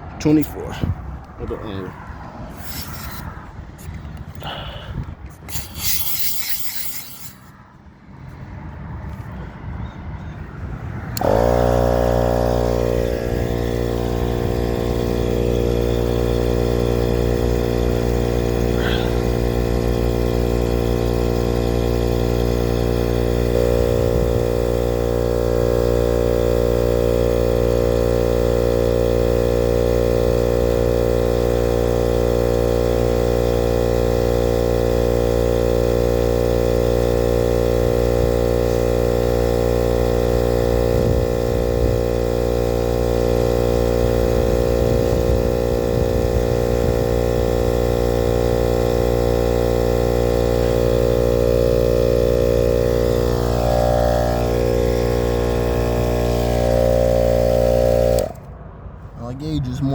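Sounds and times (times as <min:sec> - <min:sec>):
air compressor humming: 0:02.4 - 0:07.5, 0:11.0 - 0:59.9.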